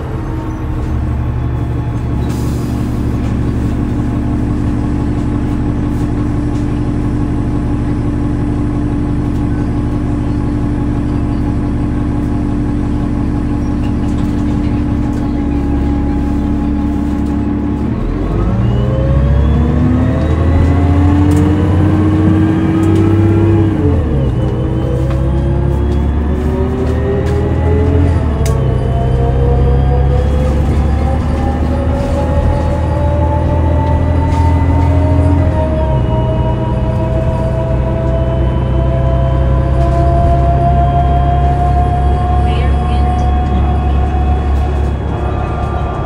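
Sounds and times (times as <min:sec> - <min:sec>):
bus diesel engine revving: 0:00.0 - 0:46.0
transmission shifting up: 0:00.6 - 0:46.0.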